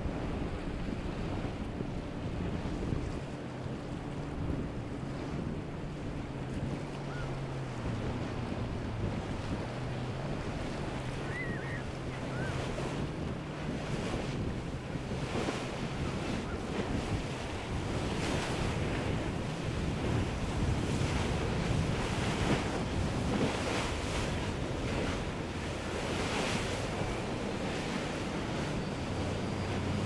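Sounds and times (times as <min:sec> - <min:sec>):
boat engine hum: 0:00.0 - 0:30.0
wind buffeting microphone: 0:00.0 - 0:30.0.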